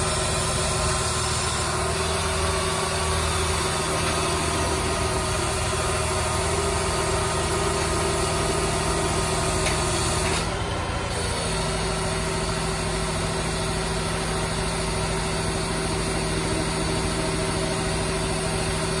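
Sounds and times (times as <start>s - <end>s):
hydraulics lowering load: 0.0s - 19.0s.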